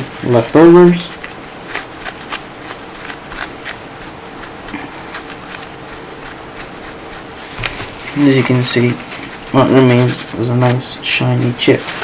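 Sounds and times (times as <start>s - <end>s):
paper towel rubbing: 0.0s - 12.0s.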